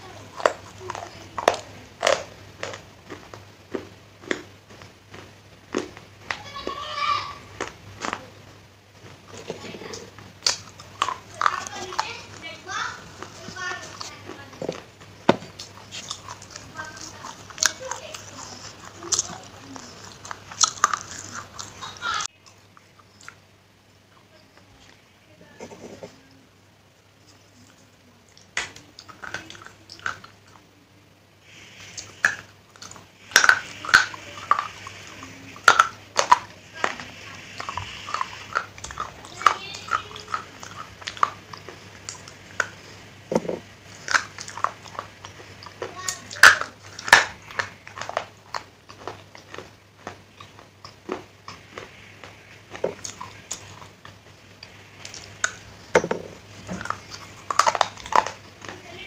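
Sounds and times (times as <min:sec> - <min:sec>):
chalky block being chewed: 0:00.0 - 0:23.5, 0:27.2 - 0:30.7, 0:31.4 - 0:59.0
teeth crunching clay pot: 0:00.0 - 0:23.5, 0:28.3 - 0:30.7, 0:31.7 - 0:59.0.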